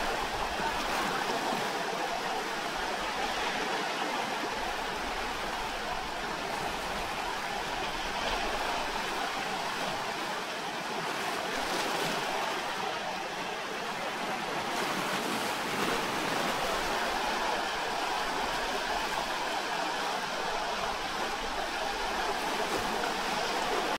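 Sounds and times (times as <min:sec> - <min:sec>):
ocean surf on rocks: 0:00.0 - 0:23.9.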